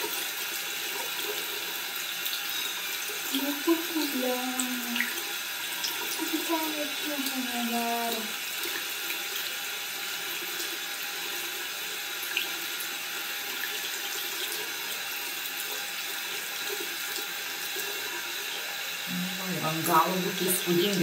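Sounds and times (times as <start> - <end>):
tap water pouring into sink: 0.0 - 19.1.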